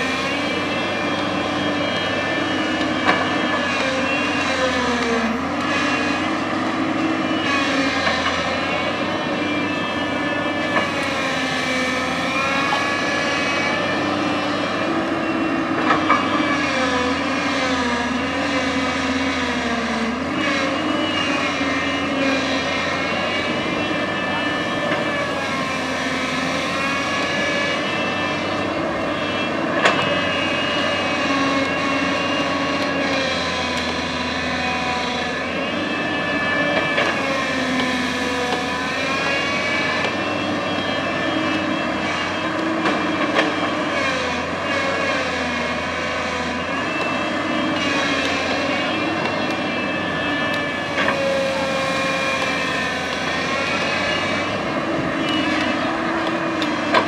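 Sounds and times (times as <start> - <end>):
excavator diesel engine working: 0.0 - 57.0
hydraulic whine: 0.0 - 57.0.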